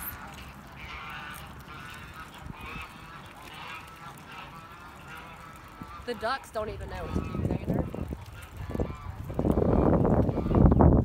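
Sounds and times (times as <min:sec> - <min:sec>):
waterfowl calling: 0:00.0 - 0:11.0.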